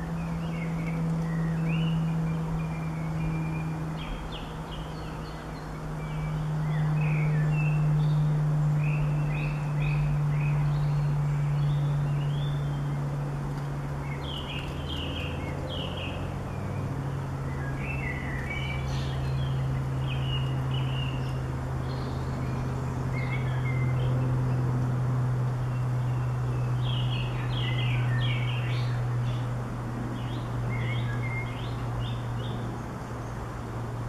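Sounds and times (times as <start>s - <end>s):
songbirds chirping: 0.0s - 34.0s
steady low drone: 0.0s - 34.0s.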